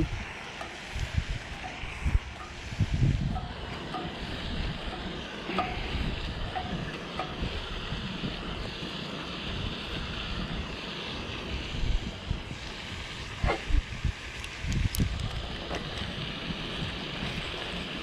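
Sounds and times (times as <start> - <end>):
rushing water: 0.0 - 18.0
wind buffeting microphone: 0.0 - 18.0.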